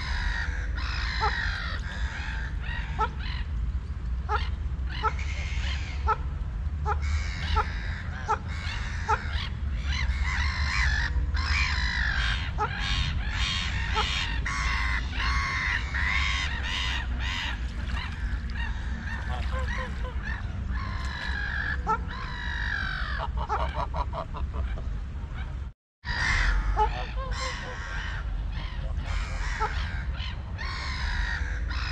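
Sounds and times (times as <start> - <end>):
waterfowl calling: 0.0 - 3.5, 4.3 - 25.5, 26.1 - 31.9
steady low rumble: 0.0 - 31.9.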